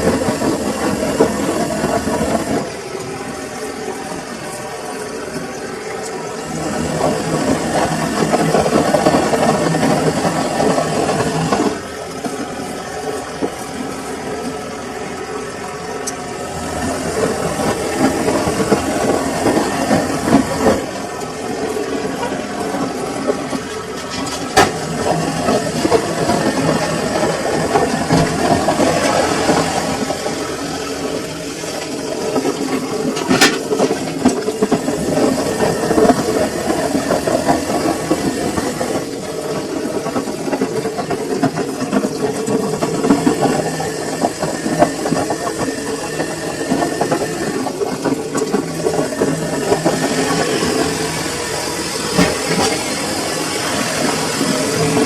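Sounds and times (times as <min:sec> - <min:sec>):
washing machine churning: 0:00.0 - 0:55.0.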